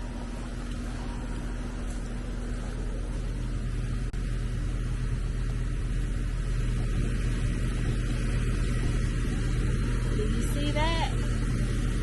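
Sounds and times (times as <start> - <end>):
low mechanical hum and rumble: 0.0 - 12.0.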